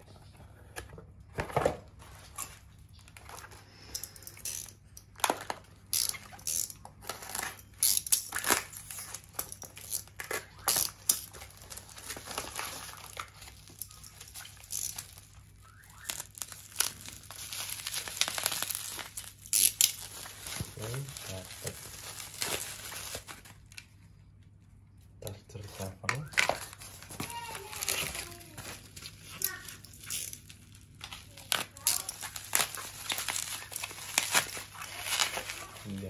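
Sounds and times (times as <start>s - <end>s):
plastic wrapping crinkling: 1.3s - 36.0s.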